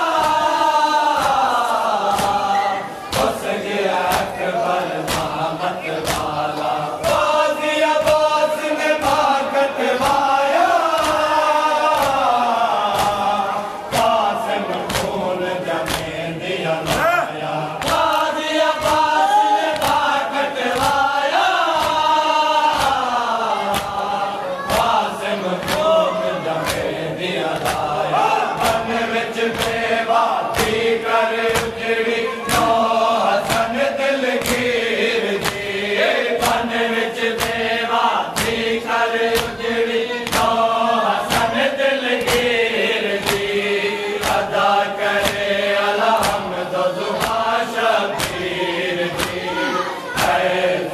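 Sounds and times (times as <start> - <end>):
men chanting together: 0.0 - 50.9.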